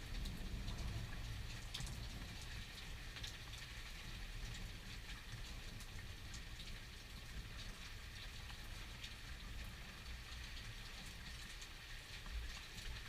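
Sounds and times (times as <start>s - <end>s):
raindrops tapping: 0.0s - 13.0s
steady rain: 0.0s - 13.0s.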